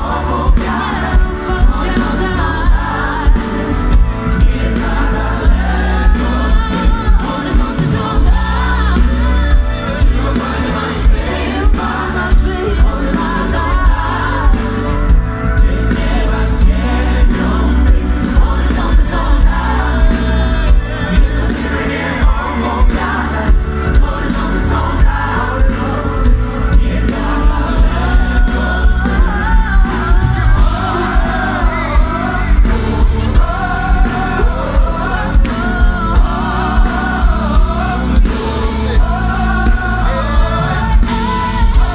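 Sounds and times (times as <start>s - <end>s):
drum beat: 0.0s - 41.9s
heavy bass: 0.0s - 41.9s
voices singing together: 0.0s - 41.9s.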